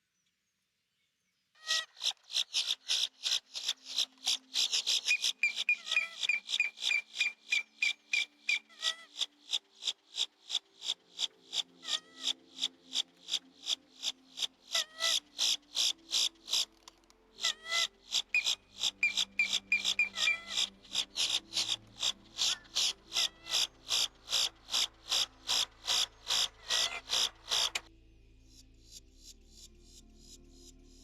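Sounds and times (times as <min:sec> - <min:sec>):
sharp high clicking animal calls: 0:01.6 - 0:27.9.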